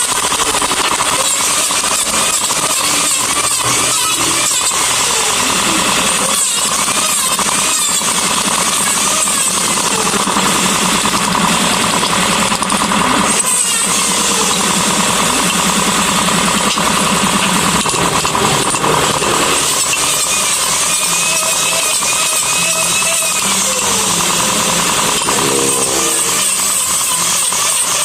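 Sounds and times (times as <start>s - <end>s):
handheld power tool running: 0.0s - 28.0s.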